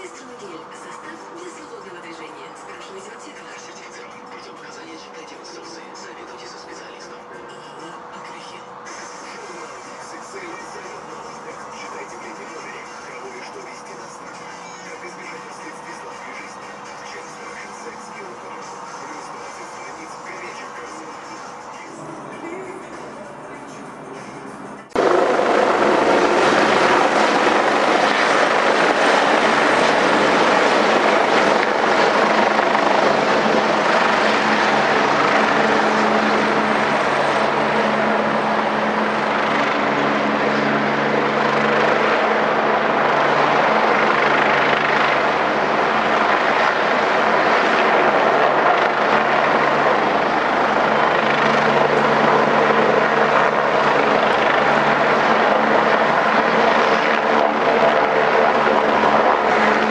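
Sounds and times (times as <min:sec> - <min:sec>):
helicopter running: 0:00.0 - 0:59.9.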